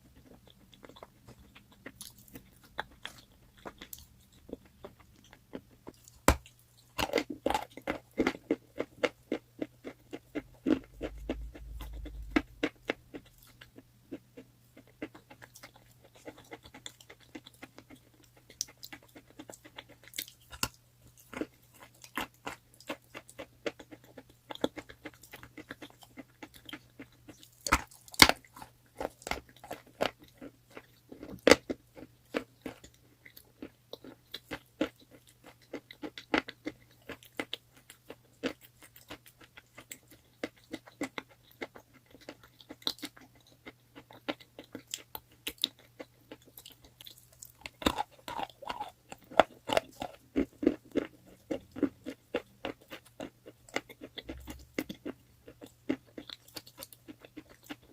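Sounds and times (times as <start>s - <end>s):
faint low hum: 0.0s - 57.9s
person chewing crunchy chalk: 0.1s - 57.9s.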